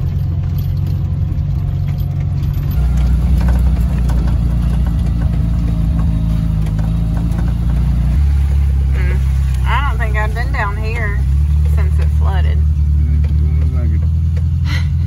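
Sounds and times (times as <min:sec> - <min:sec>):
knocks and rattles over bumps: 0:00.0 - 0:15.0
vehicle engine droning: 0:00.0 - 0:15.0.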